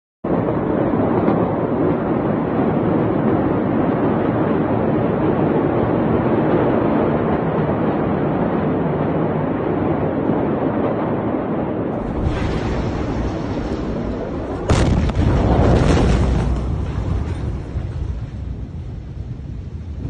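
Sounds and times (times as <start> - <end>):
earthquake rumbling: 0.3 - 20.0.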